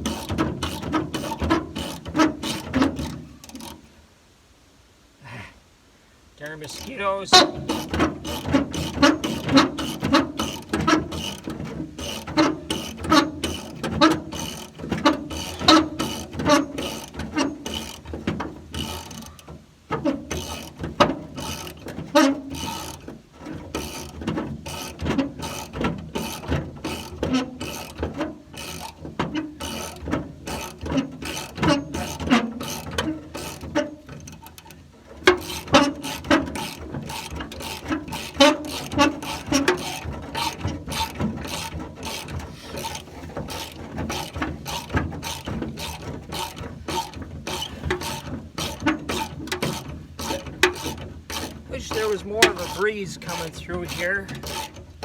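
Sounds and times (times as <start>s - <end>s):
ratchet wrench clicking: 0.0s - 3.8s, 7.5s - 11.4s, 12.0s - 18.0s, 20.3s - 20.8s, 21.4s - 21.8s, 22.5s - 23.0s, 23.8s - 29.0s, 29.6s - 54.8s.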